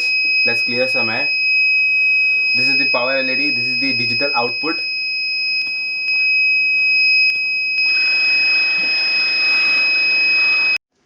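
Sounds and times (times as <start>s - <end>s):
high-pitched alarm buzzer tone: 0.0s - 10.8s.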